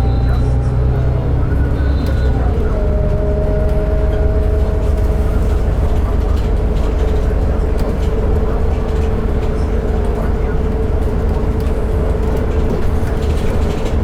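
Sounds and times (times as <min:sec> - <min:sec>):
bus engine low rumble: 0:00.0 - 0:14.0.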